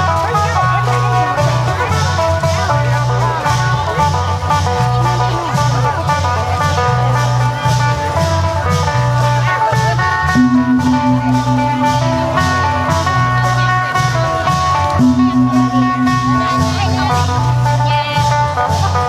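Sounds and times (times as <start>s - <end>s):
held low note: 0.0s - 19.0s
long drums steady beat: 0.0s - 19.0s
plucked lute melody: 0.0s - 19.0s.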